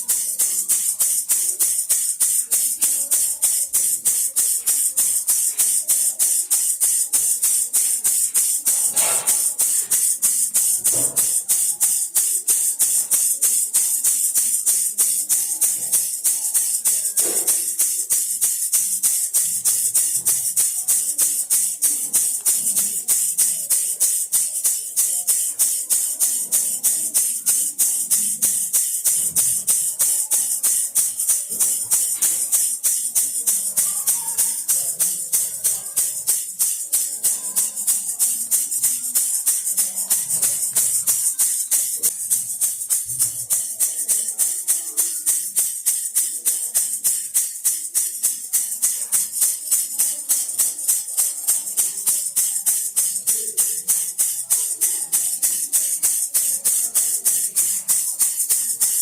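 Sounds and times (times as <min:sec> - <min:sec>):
baby rattle shaking: 0:00.0 - 0:59.0.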